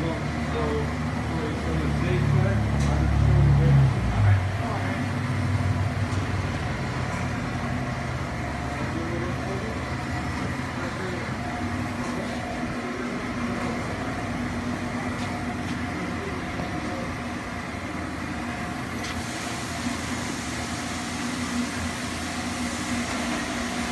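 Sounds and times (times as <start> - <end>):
factory machinery humming: 0.0 - 23.9.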